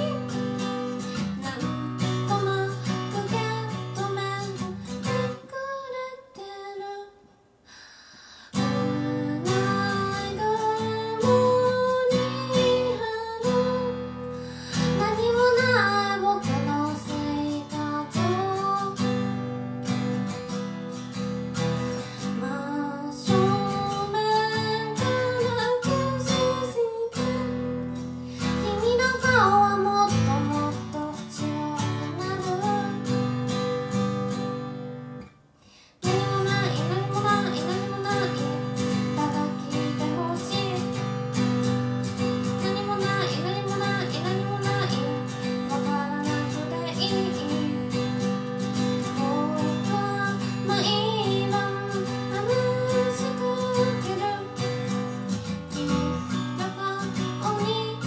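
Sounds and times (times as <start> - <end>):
woman singing: 0.0 - 7.3, 8.5 - 20.4, 21.6 - 34.9, 36.0 - 58.0
acoustic guitar: 0.0 - 58.0.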